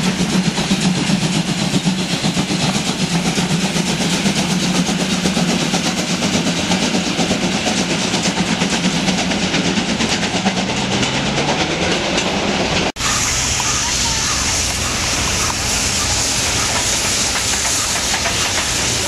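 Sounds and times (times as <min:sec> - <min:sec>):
steam hissing: 0:00.0 - 0:19.0
steam locomotive exhaust beats: 0:00.0 - 0:19.0
train wheels clattering on rails: 0:00.0 - 0:19.0.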